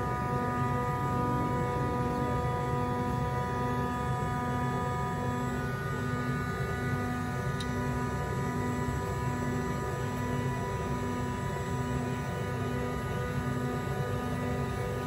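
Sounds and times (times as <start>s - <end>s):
droning hum of held tones: 0.0s - 15.0s.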